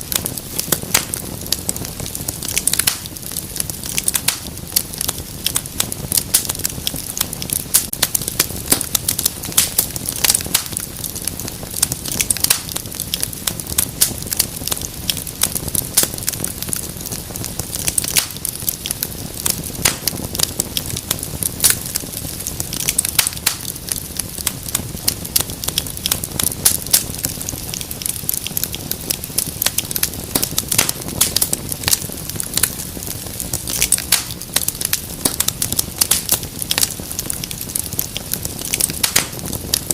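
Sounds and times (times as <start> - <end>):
fire pops and snaps: 0.0 - 39.9
soft low fire hiss: 0.0 - 39.9.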